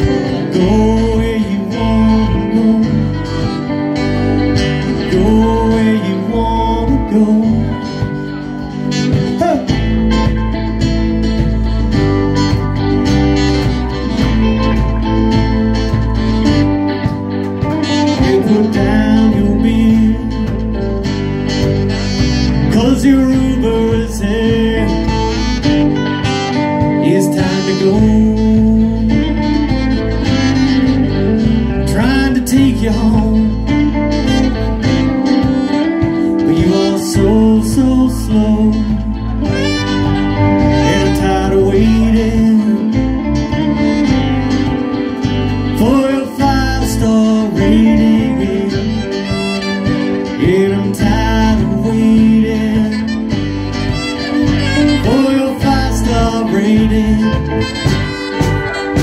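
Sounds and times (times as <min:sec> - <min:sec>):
electric guitar: 0:00.0 - 0:59.0
keyboard: 0:00.0 - 0:59.0
live band playing: 0:00.0 - 0:59.0
person singing: 0:00.0 - 0:59.0.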